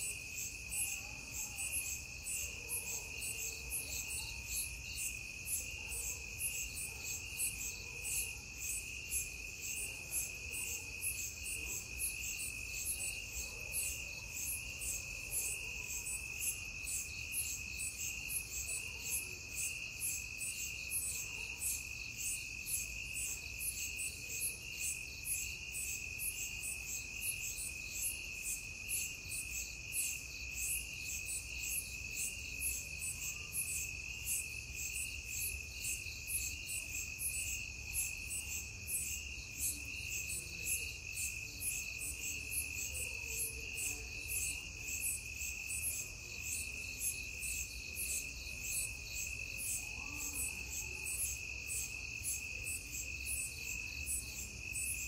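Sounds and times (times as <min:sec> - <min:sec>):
fast pulsing cricket chirp: 0:00.0 - 0:55.0.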